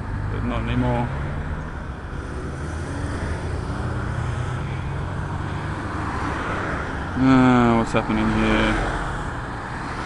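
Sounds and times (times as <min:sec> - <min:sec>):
tyres on road: 0:00.0 - 0:10.0
vehicle engines humming: 0:00.0 - 0:10.0.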